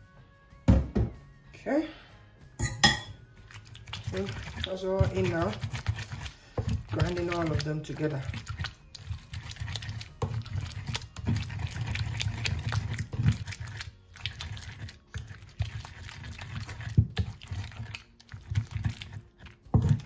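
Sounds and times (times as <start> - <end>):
wet squelching and mashing: 3.2 - 20.0.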